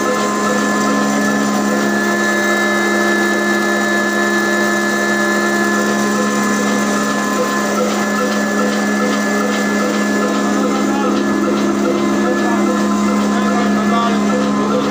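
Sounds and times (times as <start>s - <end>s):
belt-driven mill droning: 0.0s - 14.9s.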